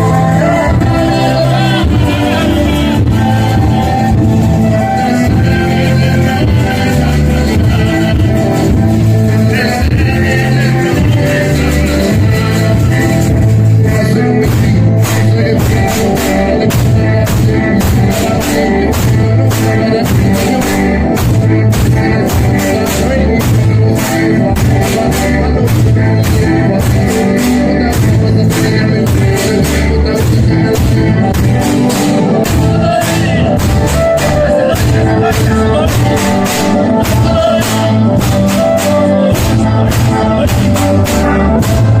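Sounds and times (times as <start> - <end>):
people singing: 0.0 - 42.0.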